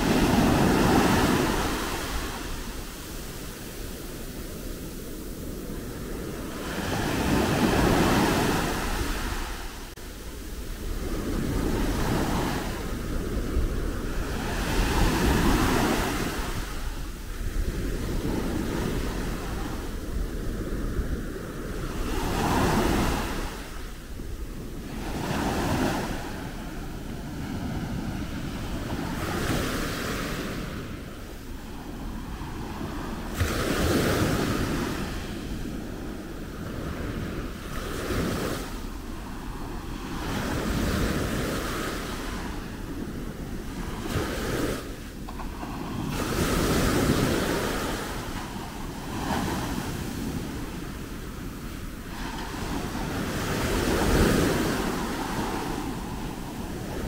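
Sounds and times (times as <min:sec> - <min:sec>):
sea waves breaking on beach: 0:00.0 - 0:57.0
wind rumbling on microphone: 0:00.0 - 0:57.0.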